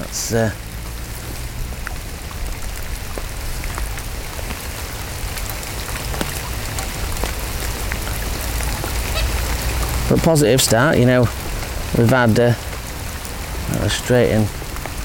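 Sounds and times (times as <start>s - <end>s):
heavy rain hissing: 0.0s - 15.0s
raindrops ticking on plastic bag: 0.0s - 15.0s.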